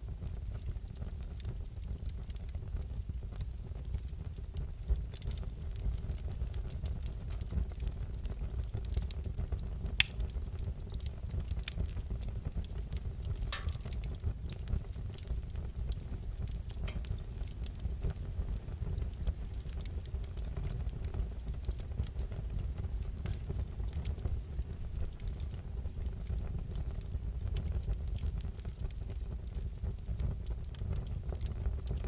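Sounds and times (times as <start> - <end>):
low rumble of flames: 0.0 - 32.0
wood fire crackling: 0.0 - 32.0.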